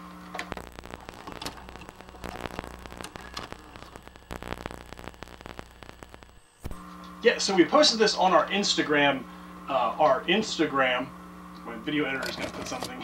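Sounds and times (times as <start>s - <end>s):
crackling static: 0.0s - 13.0s
low steady hum: 0.0s - 13.0s.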